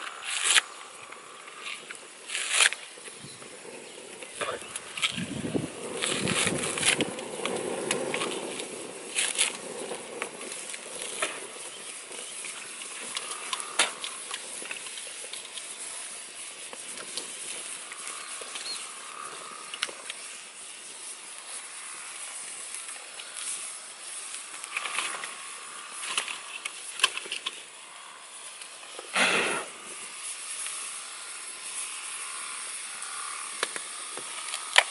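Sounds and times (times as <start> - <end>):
sharp bite crackles: 0.0 - 3.2, 4.2 - 34.9.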